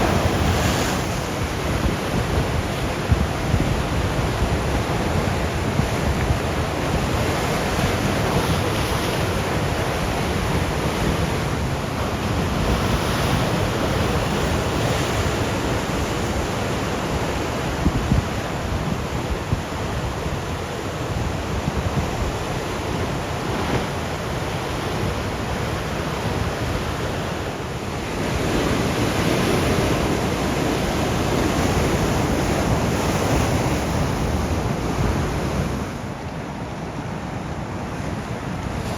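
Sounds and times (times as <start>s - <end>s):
wind rumbling on microphone: 0.0s - 36.3s
surf washing onto shore: 0.0s - 38.9s.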